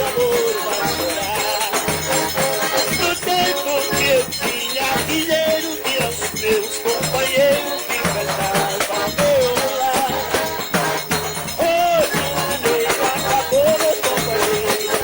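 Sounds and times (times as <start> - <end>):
button accordion melody: 0.0 - 15.0
shaken percussion: 0.0 - 15.0.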